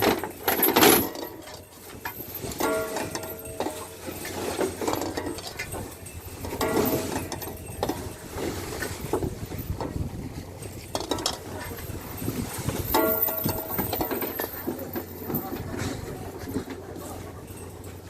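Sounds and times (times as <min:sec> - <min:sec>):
deck machinery clanking: 0:00.0 - 0:18.0.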